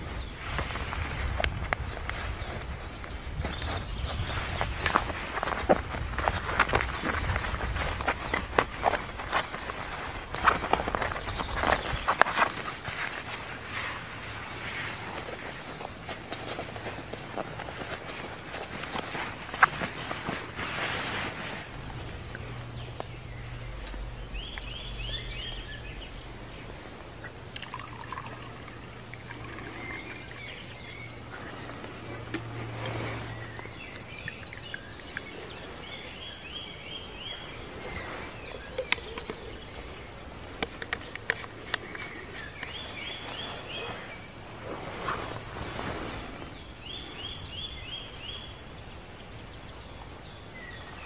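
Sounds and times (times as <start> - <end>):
outdoor background noise: 0.0 - 51.0
songbirds singing: 0.0 - 51.0.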